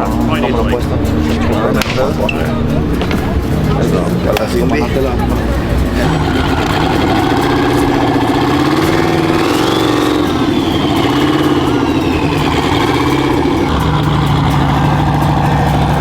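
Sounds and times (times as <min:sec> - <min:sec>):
high whine: 0:00.0 - 0:16.0
vehicle engine idling: 0:00.0 - 0:16.0.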